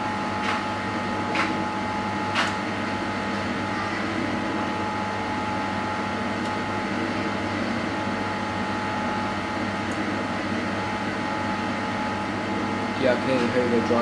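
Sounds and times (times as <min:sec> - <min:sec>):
dishwasher running: 0:00.0 - 0:14.0
dryer running: 0:00.0 - 0:14.0.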